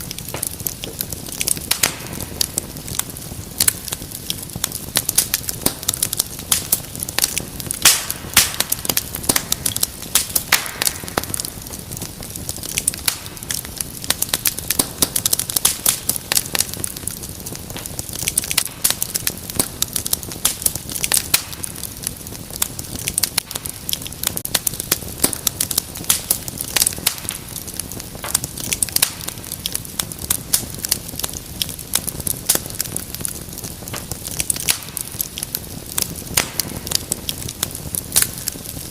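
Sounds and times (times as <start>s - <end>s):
fire crackling: 0.0s - 38.9s.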